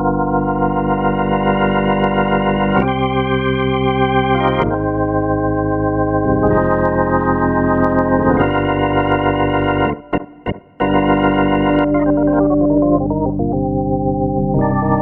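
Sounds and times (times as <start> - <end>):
sustained synthesizer organ chords: 0.0 - 15.0.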